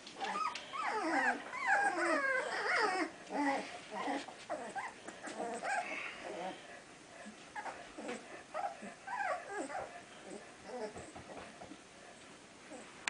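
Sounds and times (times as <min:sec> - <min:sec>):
puppies whining and whimpering: 0:00.1 - 0:11.4, 0:12.7 - 0:13.0.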